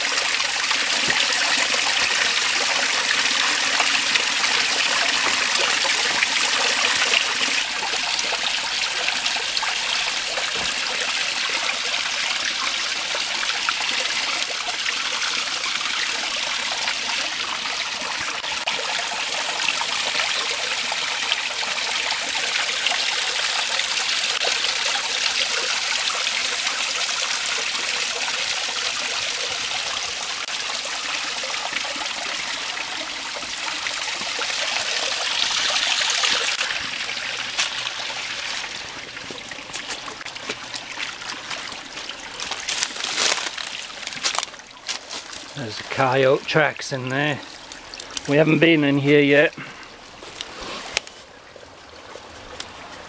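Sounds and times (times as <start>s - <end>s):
creek water trickling and splashing: 0.0s - 53.0s.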